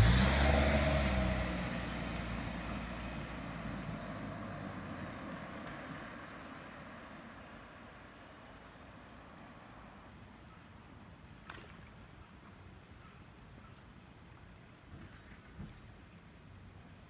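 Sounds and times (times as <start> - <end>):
high insect chirp: 2.6 - 17.0.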